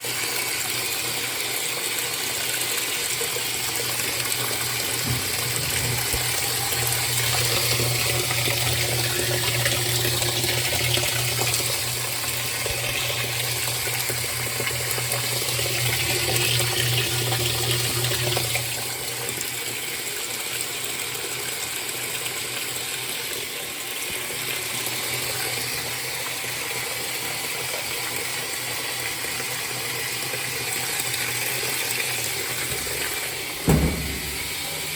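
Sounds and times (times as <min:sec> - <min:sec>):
washing machine filling with water: 0:00.0 - 0:34.9.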